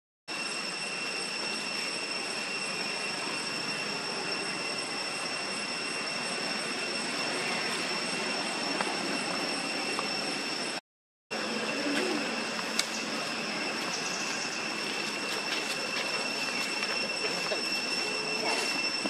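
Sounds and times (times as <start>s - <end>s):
high-pitched whine: 0.3s - 19.0s.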